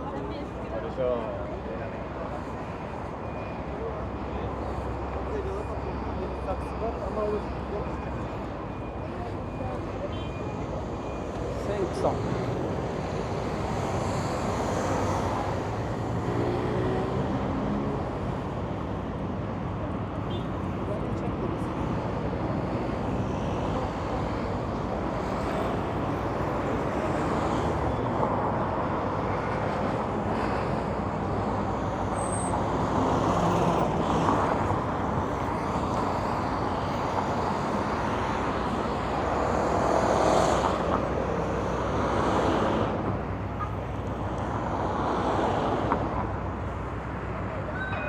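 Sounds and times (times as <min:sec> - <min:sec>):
city traffic: 0:00.0 - 0:48.0.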